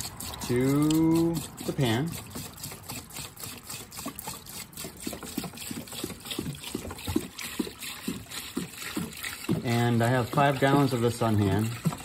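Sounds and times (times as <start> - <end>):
jug glugging: 0.0 - 12.0
liquid pouring and splashing: 0.0 - 12.0.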